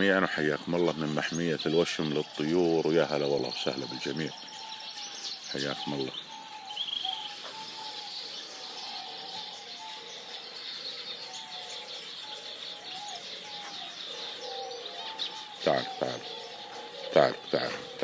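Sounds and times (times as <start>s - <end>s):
chorus of birds chirping: 0.0s - 18.0s.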